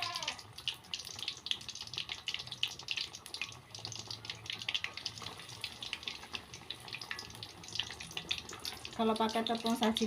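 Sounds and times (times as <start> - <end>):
food frying in hot oil: 0.0 - 10.0.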